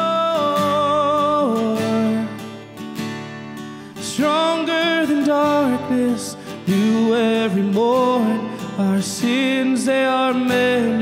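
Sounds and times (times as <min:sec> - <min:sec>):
person singing: 0:00.0 - 0:02.6, 0:04.0 - 0:11.0
acoustic guitar strumming: 0:00.0 - 0:11.0.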